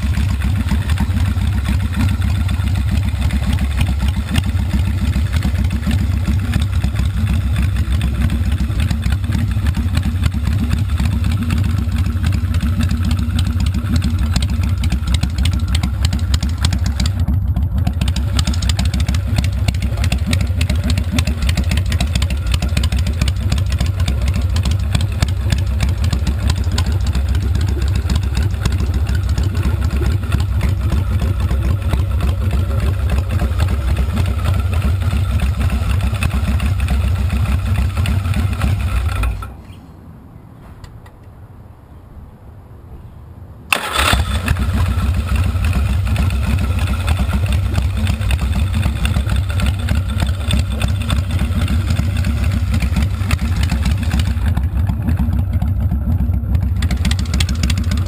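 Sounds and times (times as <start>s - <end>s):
motorcycle engine idling: 0.0s - 39.6s, 43.7s - 58.0s.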